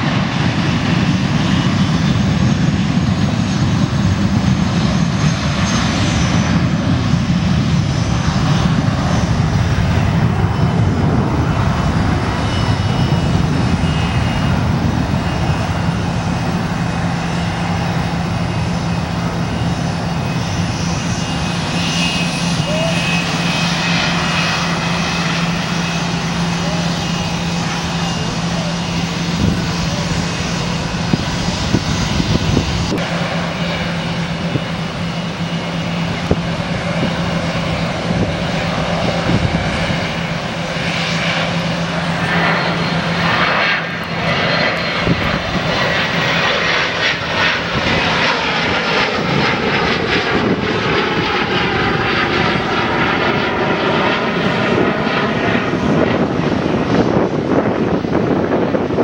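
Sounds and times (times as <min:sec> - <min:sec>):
jet engines running: 0:00.0 - 0:59.0
jet passing with falling whine: 0:00.0 - 0:59.0.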